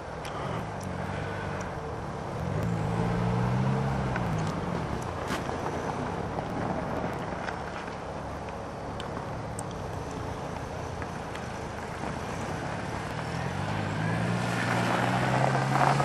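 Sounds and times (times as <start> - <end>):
diesel car engine: 0.0 - 16.0
road noise: 0.0 - 16.0.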